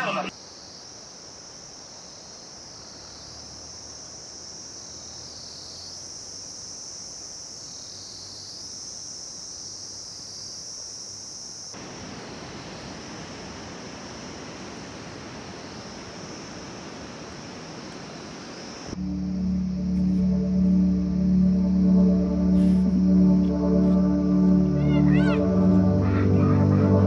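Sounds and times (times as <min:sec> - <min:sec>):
shrill insect chorus: 0:00.0 - 0:27.0.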